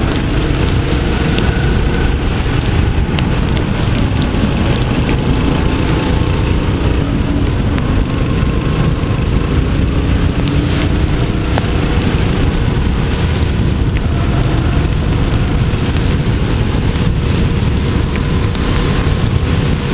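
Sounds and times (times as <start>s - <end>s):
kart engine running: 0.0s - 19.9s
wind noise on microphone: 0.0s - 19.9s.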